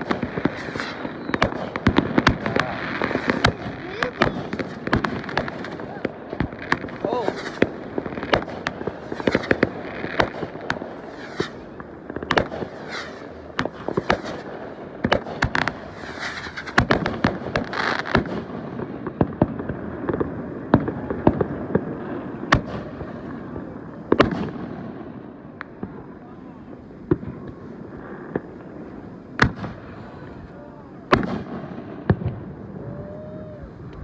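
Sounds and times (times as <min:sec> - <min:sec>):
fireworks bangs and pops: 0:00.0 - 0:34.0.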